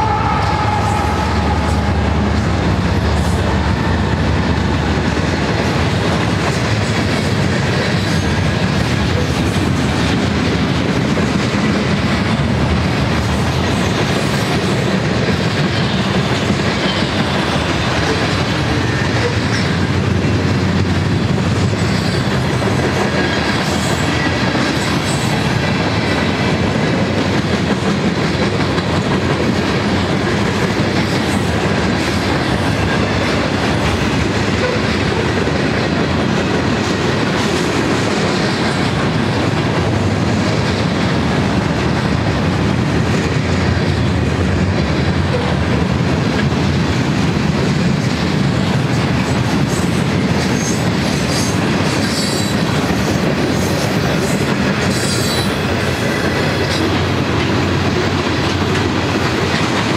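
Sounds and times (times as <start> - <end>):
freight train wheels rumbling on rails: 0.0 - 59.9.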